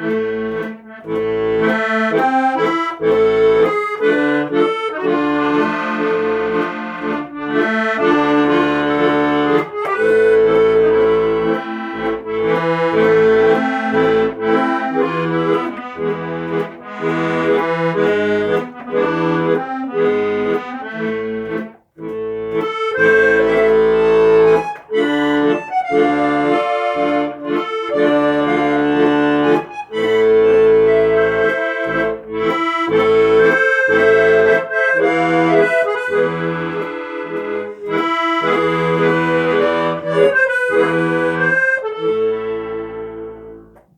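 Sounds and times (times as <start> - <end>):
accordion music: 0.0 - 43.9.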